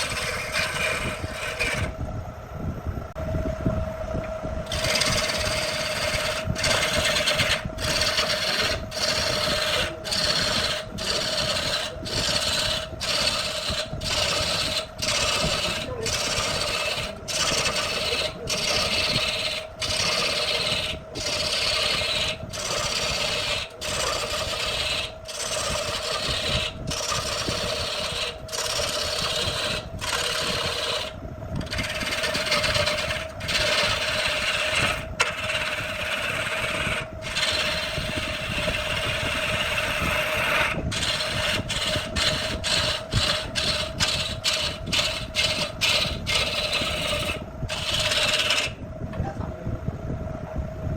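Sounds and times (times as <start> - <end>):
wood being rasped by hand: 0.0 - 1.9, 4.7 - 48.8
steady hum: 0.0 - 50.9.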